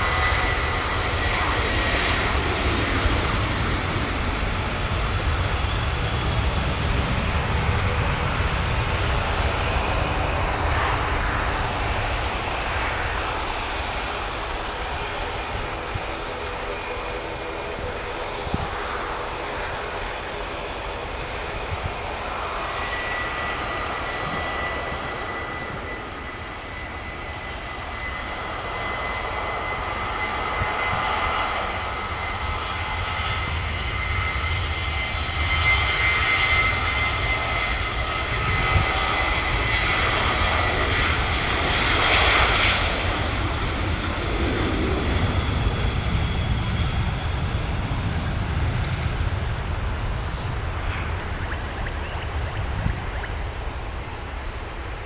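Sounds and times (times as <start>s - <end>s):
jet engines rumble and whine: 0.0s - 55.0s.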